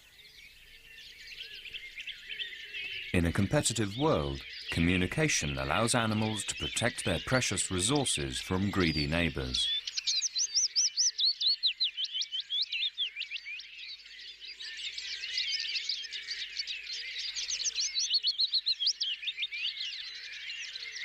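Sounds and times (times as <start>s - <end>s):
small birds chirping chorus: 0.0s - 21.0s.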